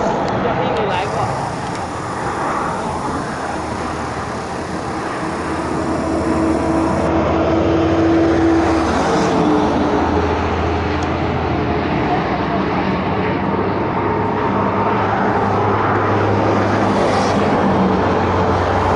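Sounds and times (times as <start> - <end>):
fast highway traffic: 0.0 - 18.9
vehicle engine hum: 0.0 - 18.9.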